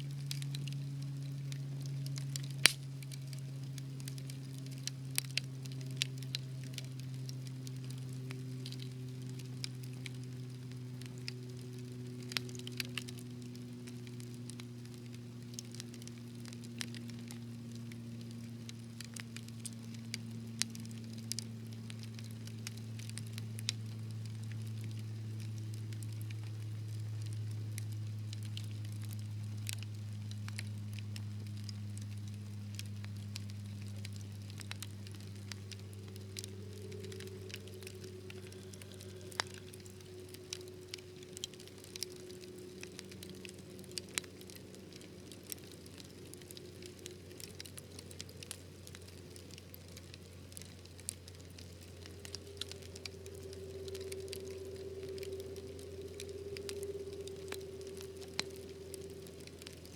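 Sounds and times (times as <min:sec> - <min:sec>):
steady low hum: 0:00.0 - 0:59.9
wood fire crackling and popping: 0:00.0 - 0:59.9.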